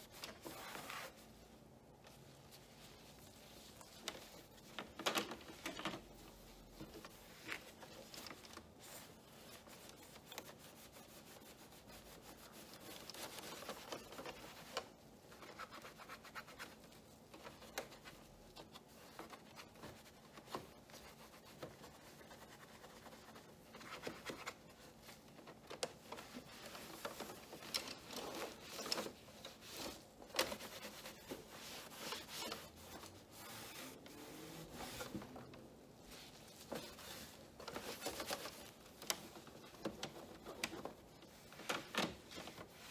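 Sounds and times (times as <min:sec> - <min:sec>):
cloth wiping plastic: 0:00.0 - 0:42.9.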